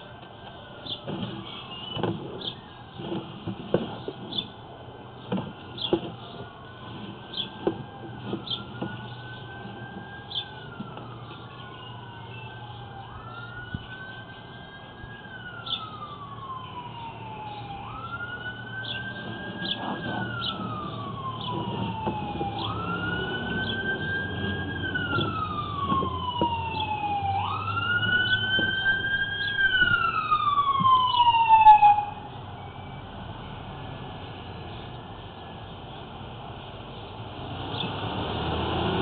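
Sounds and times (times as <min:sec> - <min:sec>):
emergency vehicle siren wailing: 0:00.0 - 0:34.6.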